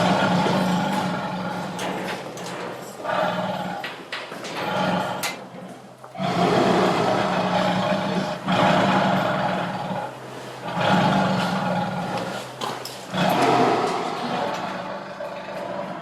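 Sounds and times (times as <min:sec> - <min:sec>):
steady low hum: 0:00.0 - 0:16.0
tiger growling and roaring: 0:00.0 - 0:16.0.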